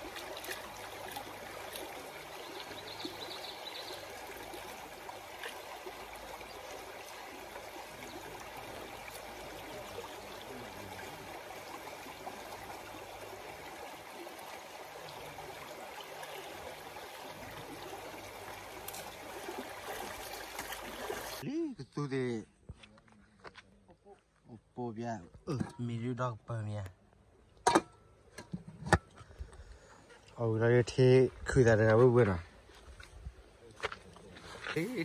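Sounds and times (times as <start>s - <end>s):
stream water running: 0.0s - 21.5s, 25.6s - 35.0s.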